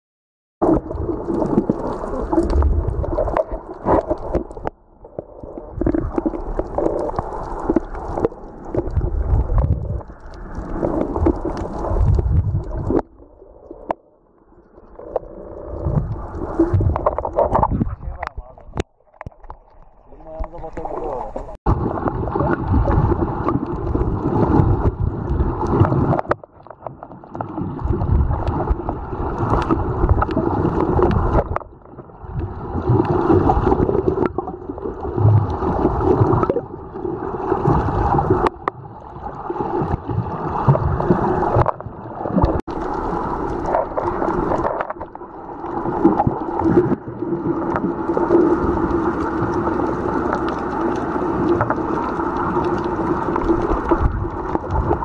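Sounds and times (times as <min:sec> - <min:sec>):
underwater water rushing and sloshing: 0:00.6 - 0:55.0.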